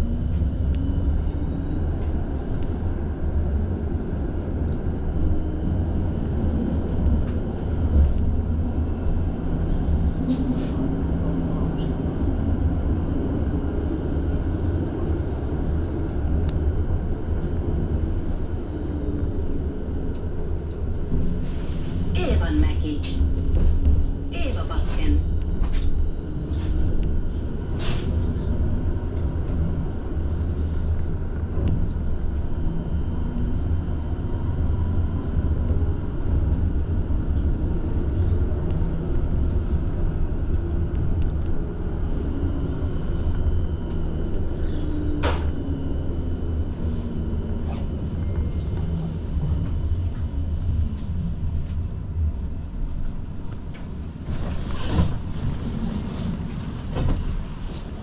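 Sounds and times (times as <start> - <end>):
tram rumbling: 0.0 - 58.0.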